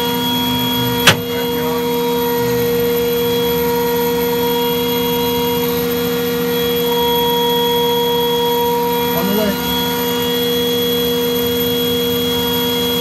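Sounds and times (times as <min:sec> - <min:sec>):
constant high tones: 0:00.0 - 0:13.0
machinery drone: 0:00.0 - 0:13.0.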